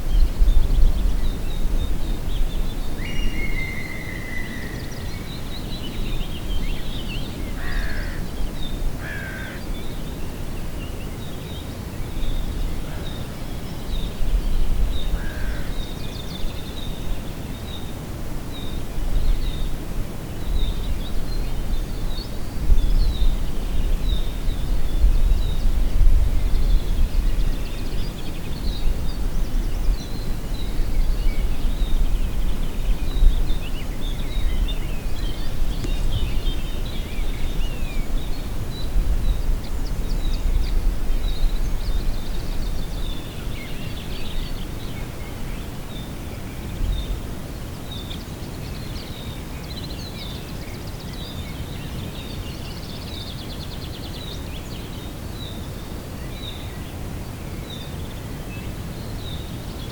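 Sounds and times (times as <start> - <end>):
songbirds chirping: 0.0 - 59.9
wind rumble on microphone: 0.0 - 59.9.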